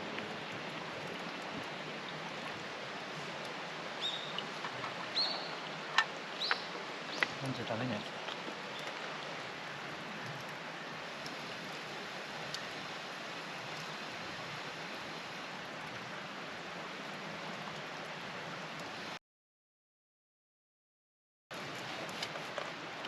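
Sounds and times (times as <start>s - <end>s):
flowing stream: 0.0s - 19.2s, 21.5s - 23.0s.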